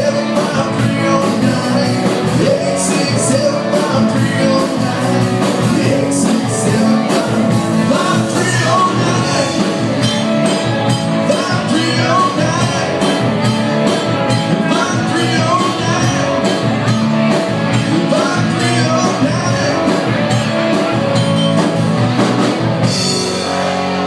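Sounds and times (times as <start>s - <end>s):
person singing: 0.0s - 21.6s
guitar: 0.0s - 24.0s
live rock band playing: 0.0s - 24.0s
steady drum beat: 0.0s - 24.0s.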